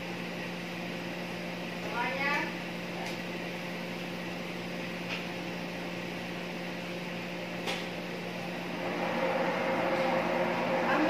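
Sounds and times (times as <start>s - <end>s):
kitchen machinery humming: 0.0s - 11.0s.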